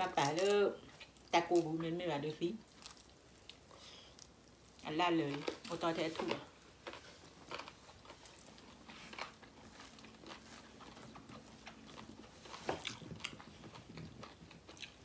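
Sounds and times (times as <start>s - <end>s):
people chewing: 2.6s - 15.0s.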